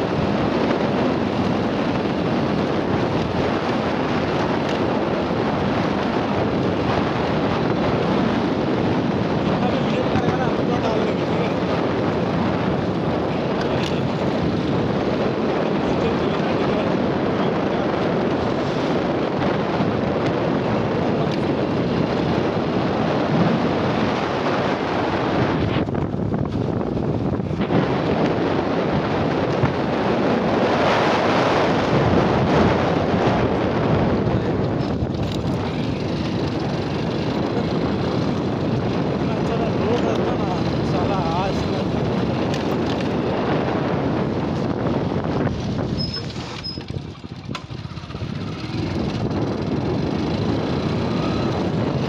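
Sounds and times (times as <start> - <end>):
vehicle engine: 0.0 - 52.0
wind rushing over microphone: 0.0 - 52.0
tyres on gravel road: 0.1 - 23.2, 32.7 - 52.0.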